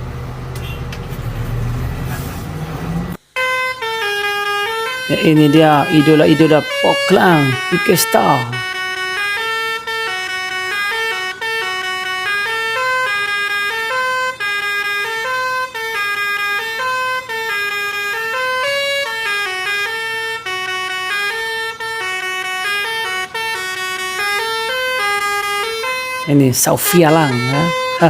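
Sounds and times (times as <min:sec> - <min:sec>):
musical horn playing a tune: 0:03.4 - 0:28.0.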